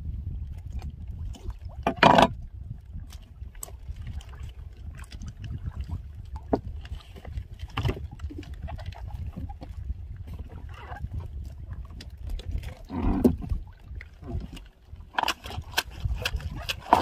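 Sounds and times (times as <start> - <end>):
wind and sea rumble: 0.0 - 17.0.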